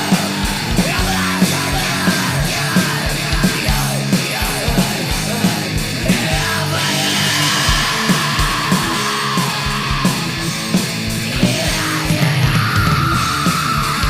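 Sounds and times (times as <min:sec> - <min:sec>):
shouted vocals: 0:00.0 - 0:10.5, 0:11.2 - 0:14.0
distorted electric guitar: 0:00.0 - 0:14.0
pounding drum kit: 0:00.0 - 0:14.0.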